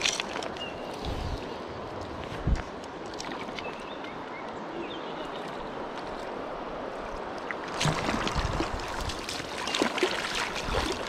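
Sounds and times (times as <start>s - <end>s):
shallow river flowing: 0.0s - 11.0s.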